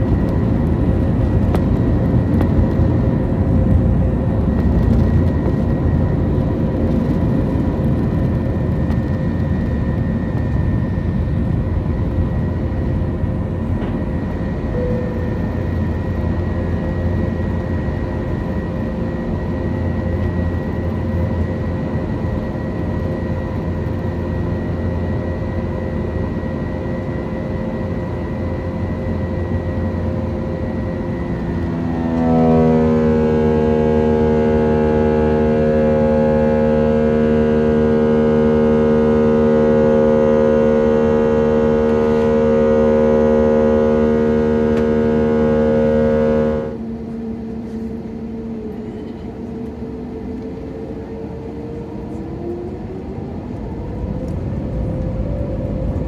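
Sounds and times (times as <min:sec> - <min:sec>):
airliner engines droning: 0:00.0 - 0:56.0.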